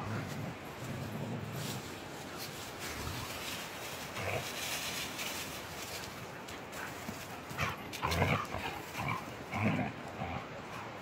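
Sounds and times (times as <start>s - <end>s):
dogs play-fighting: 0.0s - 11.0s.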